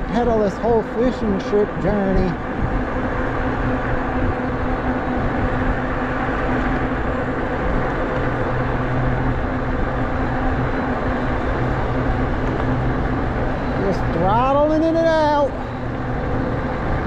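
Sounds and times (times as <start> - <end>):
road noise: 0.0 - 17.0
steady low hum: 0.0 - 17.0
wind rush: 0.0 - 17.0.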